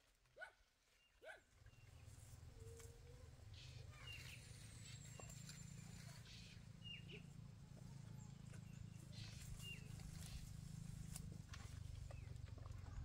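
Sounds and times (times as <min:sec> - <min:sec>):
low steady rumble: 0:01.7 - 0:13.0.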